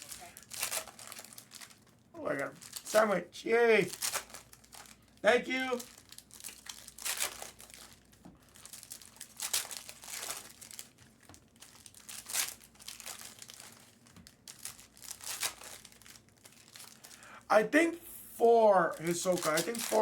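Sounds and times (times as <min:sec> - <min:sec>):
plastic wrapping crinkling: 0:00.0 - 0:17.5, 0:18.4 - 0:20.0.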